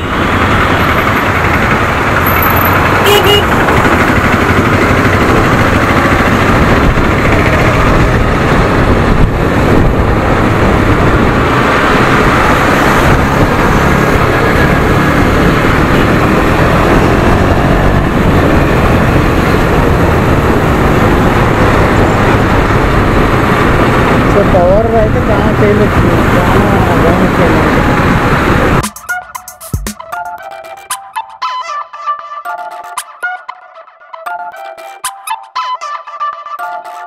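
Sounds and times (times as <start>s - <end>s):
motorcycle engine running: 0.0s - 30.2s
road and wind noise: 0.0s - 37.0s.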